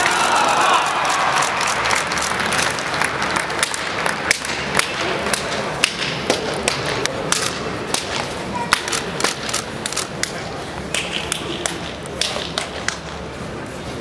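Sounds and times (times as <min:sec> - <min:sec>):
crowd murmur: 0:00.0 - 0:14.0.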